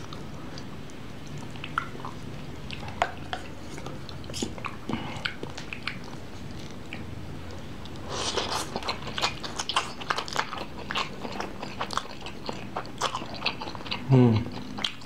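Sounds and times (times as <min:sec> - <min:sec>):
person chewing noodles: 0:00.0 - 0:15.0.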